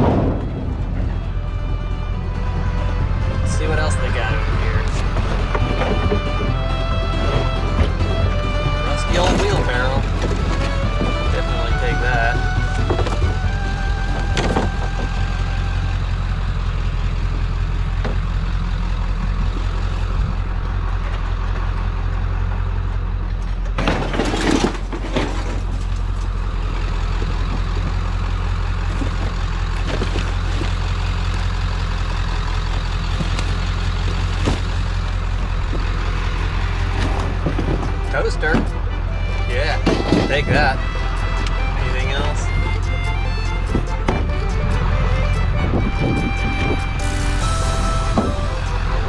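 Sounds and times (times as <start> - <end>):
knocks and clanks: 0.0 - 15.8, 17.7 - 49.0
truck engine idling: 0.0 - 49.0.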